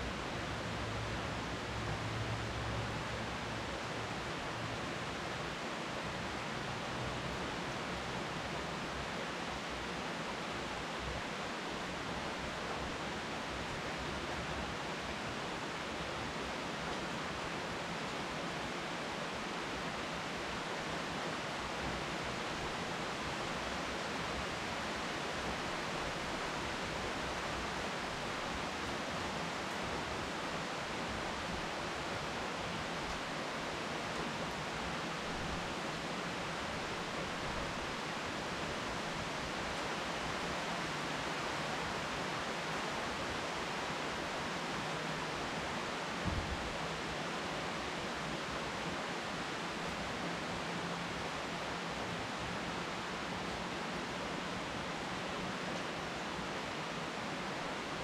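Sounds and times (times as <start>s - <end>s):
rain falling on leafy trees: 0.0s - 58.0s.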